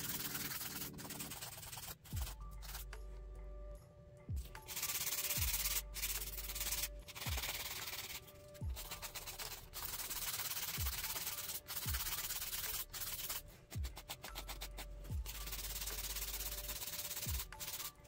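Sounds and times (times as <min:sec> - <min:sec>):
nail file scratching nails: 0:00.0 - 0:03.0, 0:04.5 - 0:18.0.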